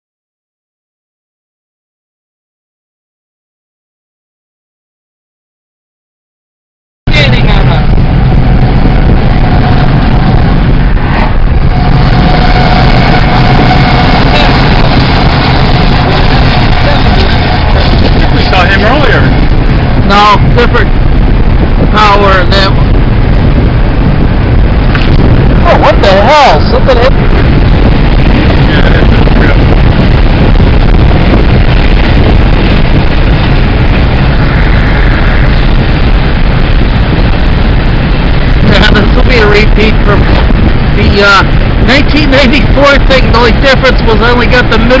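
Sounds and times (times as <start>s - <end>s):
car road and engine noise: 7.1s - 45.0s.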